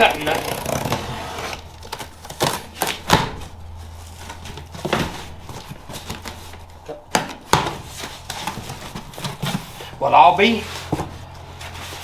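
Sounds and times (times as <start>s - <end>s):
steady low hum: 0.0s - 12.0s
cardboard box knocks and scrapes: 0.2s - 10.0s, 10.6s - 12.0s.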